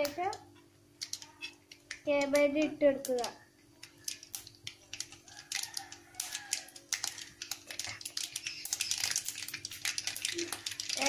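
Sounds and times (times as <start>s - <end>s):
seeds popping in hot oil: 0.0s - 11.0s.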